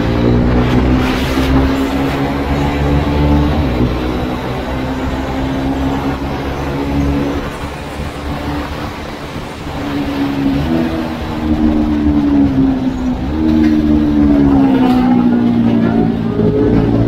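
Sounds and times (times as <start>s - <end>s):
motorcycle engine cruising: 0.0s - 17.0s
wind and road rumble: 0.0s - 17.0s.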